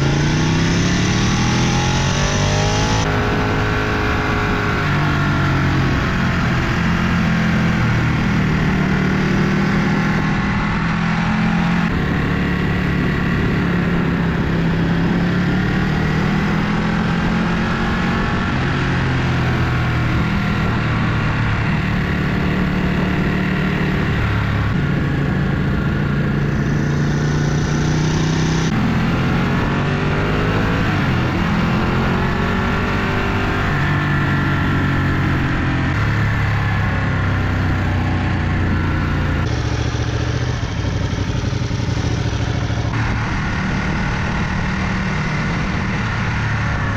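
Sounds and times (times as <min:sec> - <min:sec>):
vehicle engine running under load: 0:00.0 - 0:46.9.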